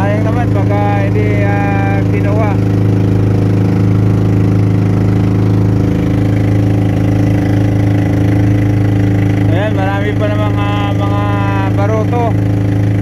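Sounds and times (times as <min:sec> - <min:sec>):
boat engine humming: 0:00.0 - 0:13.0
water splashing off hull: 0:00.0 - 0:13.0.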